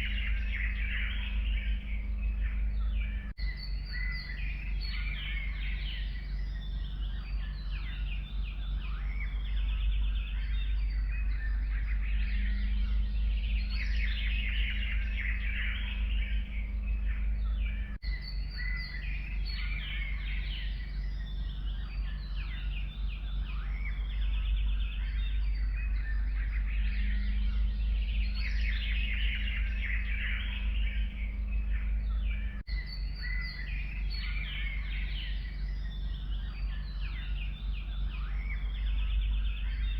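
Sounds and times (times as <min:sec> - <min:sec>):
songbirds chirping and trilling: 0:00.0 - 0:39.9
steady low rumble: 0:00.0 - 0:39.9.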